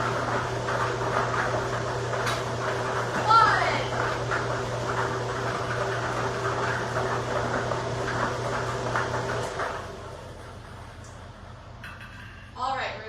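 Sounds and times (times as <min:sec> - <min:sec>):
blower hum: 0:00.0 - 0:13.0.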